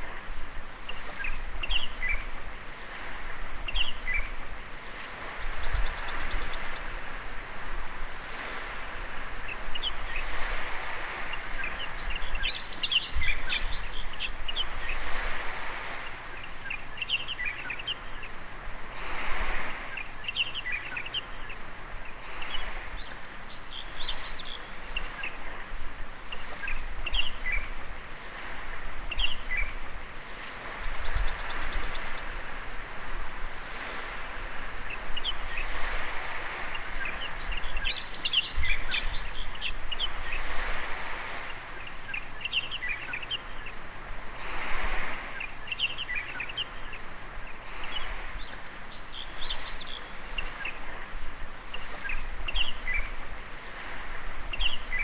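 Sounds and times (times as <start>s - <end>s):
birds chirping: 0.0s - 55.0s
gentle waves washing on sand: 0.0s - 55.0s.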